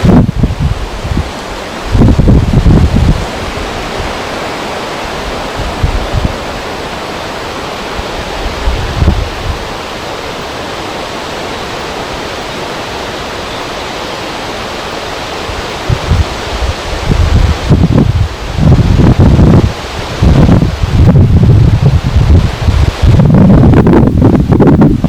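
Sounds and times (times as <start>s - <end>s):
wind buffeting microphone: 0.0s - 25.0s
wind rushing: 0.0s - 25.0s.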